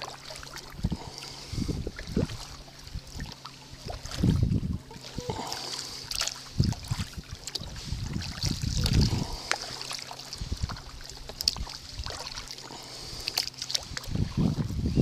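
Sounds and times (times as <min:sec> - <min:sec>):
low rumbles: 0:00.0 - 0:15.0
paddle strokes splashing water: 0:00.0 - 0:15.0
water lapping against hull: 0:00.0 - 0:15.0.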